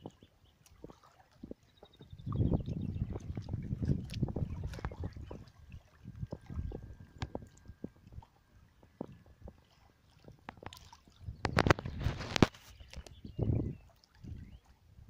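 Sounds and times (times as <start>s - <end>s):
water slapping against boat hull: 0.0s - 13.6s
rush of water: 0.0s - 15.0s.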